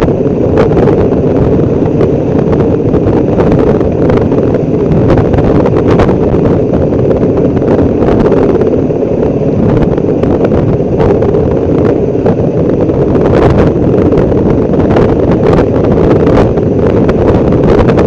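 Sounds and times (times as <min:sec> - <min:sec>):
loud steady low noise: 0:00.0 - 0:18.0.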